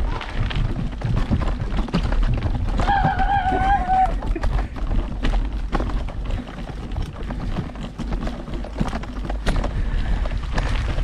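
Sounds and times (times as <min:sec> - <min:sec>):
bike knocks and rattles: 0:00.0 - 0:11.0
wind rumble on microphone: 0:00.0 - 0:11.0.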